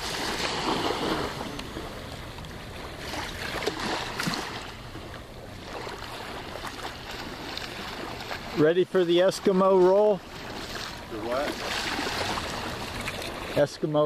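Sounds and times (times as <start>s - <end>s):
water lapping and splashing: 0.0s - 14.0s.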